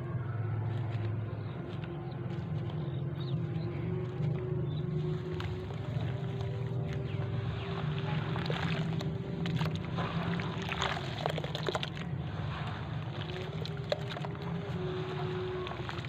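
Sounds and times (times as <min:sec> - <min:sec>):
steady low rumble: 0:00.0 - 0:16.0
wet sand squelching and sloshing: 0:00.0 - 0:16.0.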